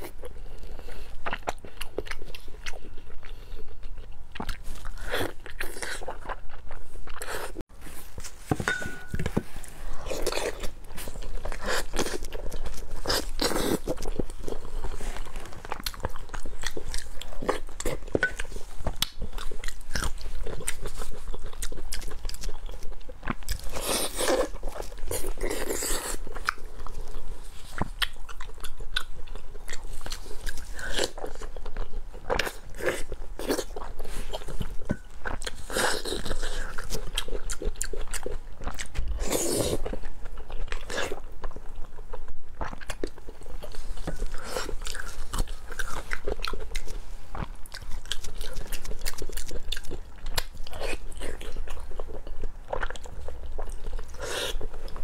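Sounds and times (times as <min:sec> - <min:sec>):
person chewing food: 0:00.0 - 0:07.6, 0:08.2 - 0:55.0.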